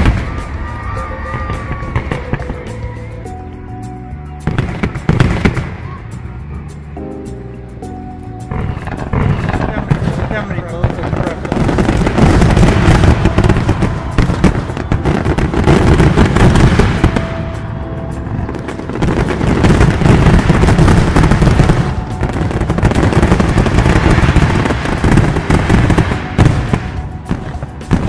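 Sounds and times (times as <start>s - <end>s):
fireworks bursting and crackling: 0.0s - 3.6s, 4.4s - 6.8s, 8.4s - 28.0s.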